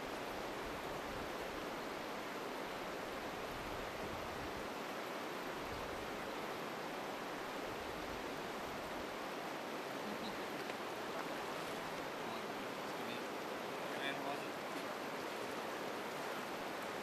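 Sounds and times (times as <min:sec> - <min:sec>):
river running over stones: 0:00.0 - 0:17.0.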